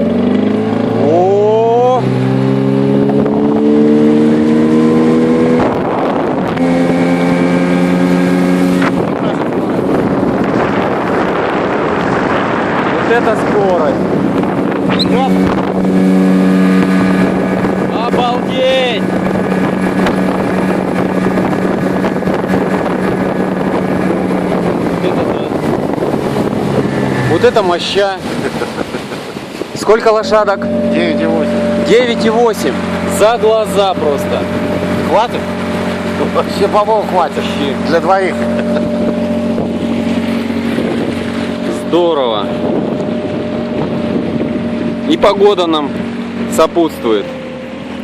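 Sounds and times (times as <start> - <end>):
outboard motor running: 0.0 - 48.0
rush of wind or water: 0.0 - 48.0.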